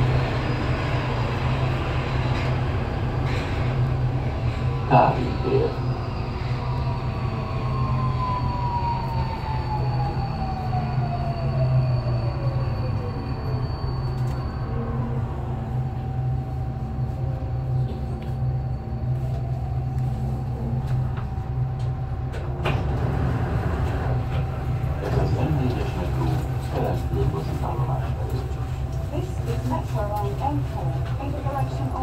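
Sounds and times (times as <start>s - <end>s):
metro train rumble: 0.0s - 32.0s.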